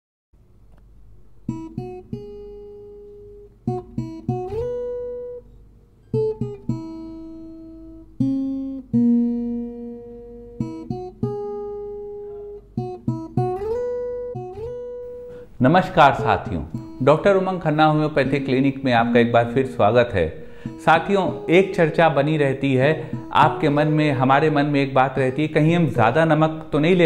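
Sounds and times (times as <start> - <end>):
acoustic guitar plucked notes: 0.4 - 27.0.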